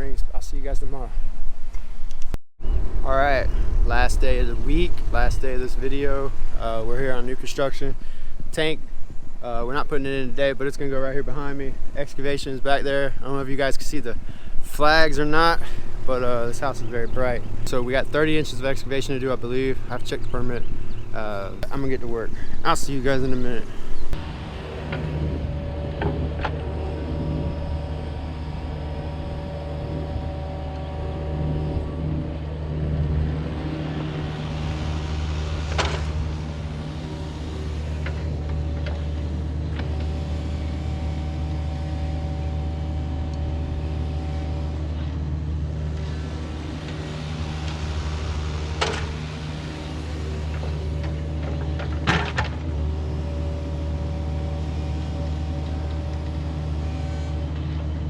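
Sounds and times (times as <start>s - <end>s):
excavator diesel engine running: 9.5s - 58.0s.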